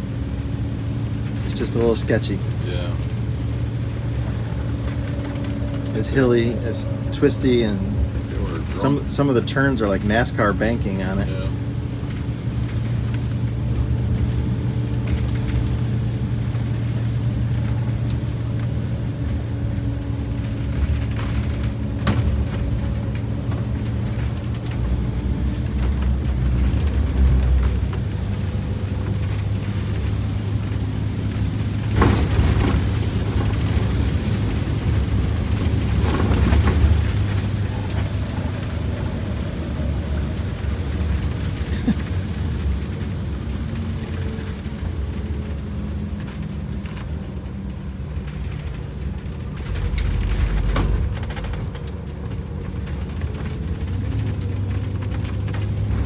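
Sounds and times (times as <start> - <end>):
bus diesel engine running: 0.0 - 56.0
road noise: 0.0 - 56.0.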